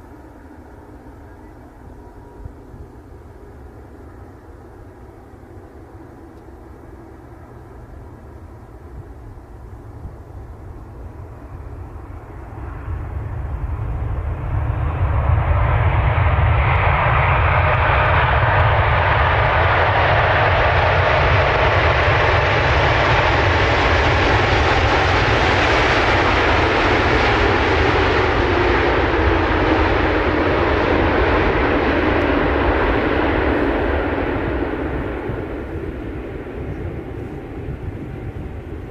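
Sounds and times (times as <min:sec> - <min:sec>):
airplane engine noise: 0:00.0 - 0:38.9.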